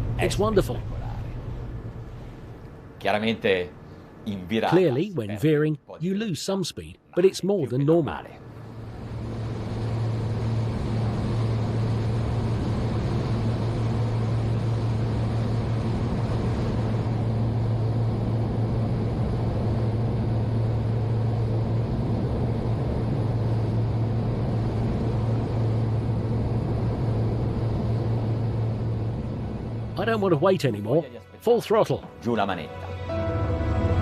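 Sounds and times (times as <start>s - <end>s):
boat engine drone: 0.0s - 5.1s, 8.3s - 34.0s.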